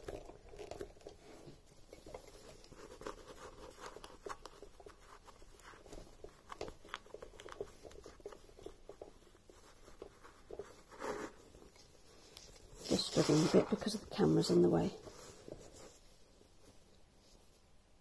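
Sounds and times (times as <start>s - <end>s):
fabric rustling: 1.2s - 18.0s.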